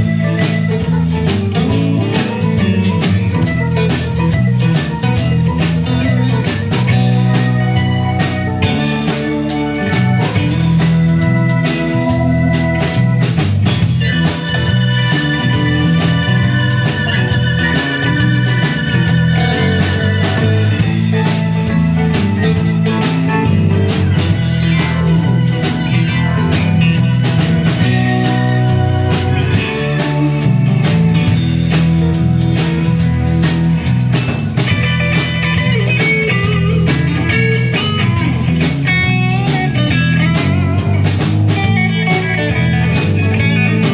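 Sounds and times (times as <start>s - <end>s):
bass guitar: 0.0s - 43.9s
drum kit beat: 0.0s - 43.9s
electric guitars: 0.0s - 43.9s.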